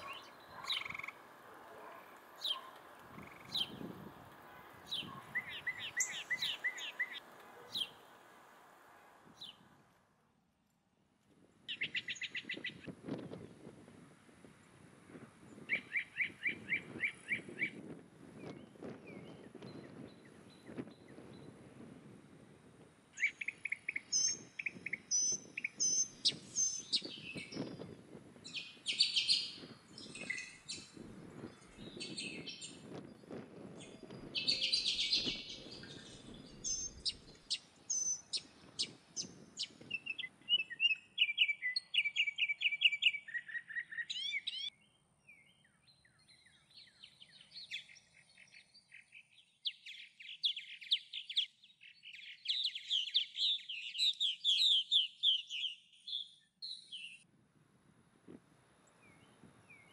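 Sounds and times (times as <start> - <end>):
songbirds chirping and trilling: 0.0 - 9.8, 11.7 - 13.6, 15.1 - 21.8, 23.0 - 57.3, 58.8 - 59.9.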